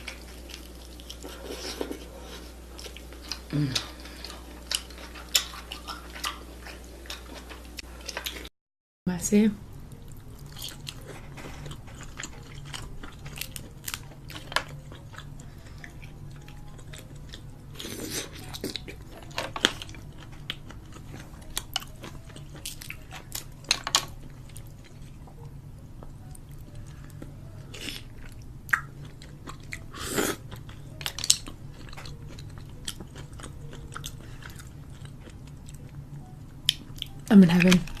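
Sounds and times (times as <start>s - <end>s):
low steady hum: 0.0s - 8.5s, 9.1s - 38.0s
person chewing crunchy food: 0.0s - 8.5s, 9.9s - 38.0s.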